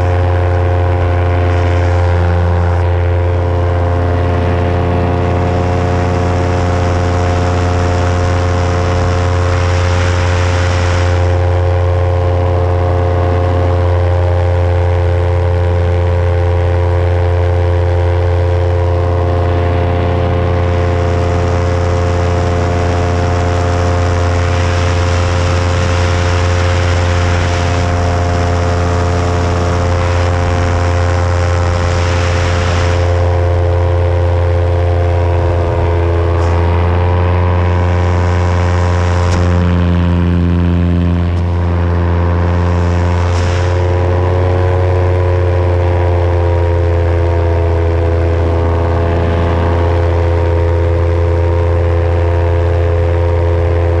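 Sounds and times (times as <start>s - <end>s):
wind rushing over microphone: 0.0s - 14.6s, 18.6s - 52.9s
paramotor engine drone: 0.0s - 54.0s.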